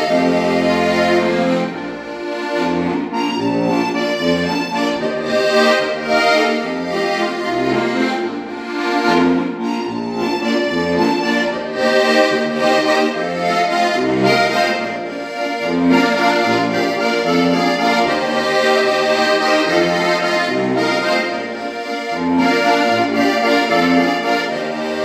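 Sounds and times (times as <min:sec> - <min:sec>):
accordion pulsing bass: 0:00.0 - 0:25.0
button accordion melody: 0:00.0 - 0:25.0.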